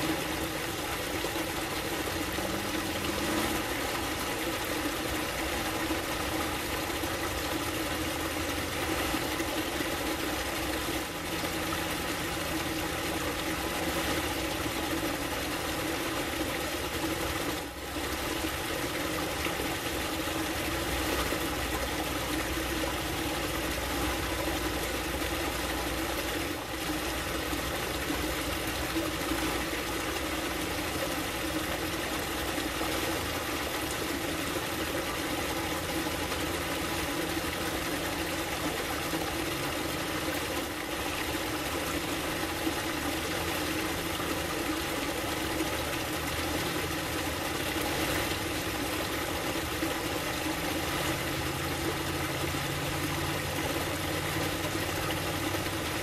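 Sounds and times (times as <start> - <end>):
water splashing over rocks: 0.0 - 56.0.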